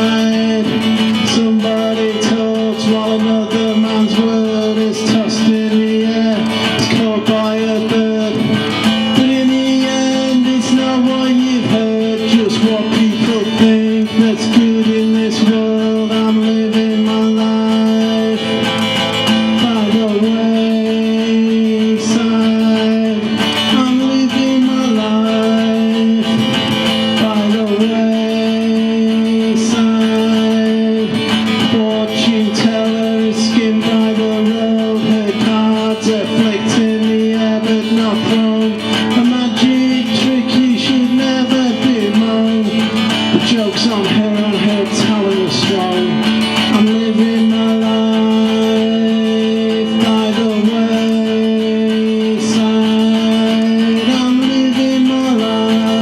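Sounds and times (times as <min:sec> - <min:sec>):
acoustic guitar playing chords: 0:00.0 - 0:56.0.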